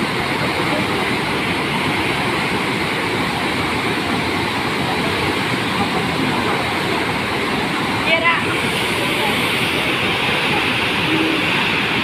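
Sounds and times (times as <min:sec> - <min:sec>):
floodwater torrent rushing: 0:00.0 - 0:12.0.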